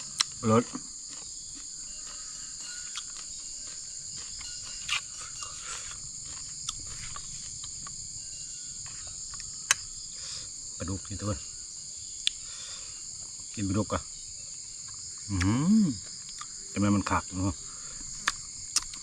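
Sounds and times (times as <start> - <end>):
insect chorus chirring: 0.0 - 19.0.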